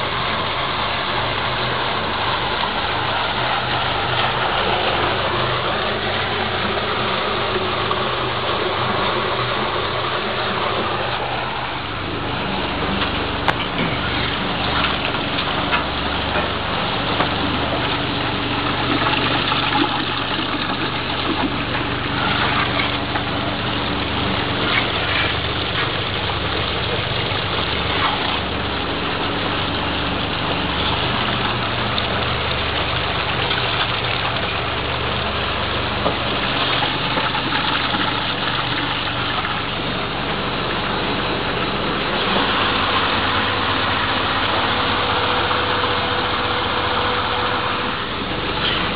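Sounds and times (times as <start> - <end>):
machine hum: 0.0 - 48.9
rushing water noise: 0.0 - 48.9.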